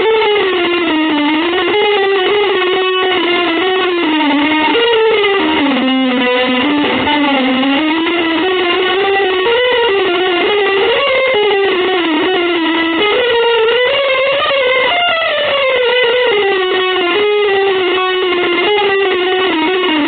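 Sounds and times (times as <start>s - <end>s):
electric guitar bending notes: 0.0s - 20.0s.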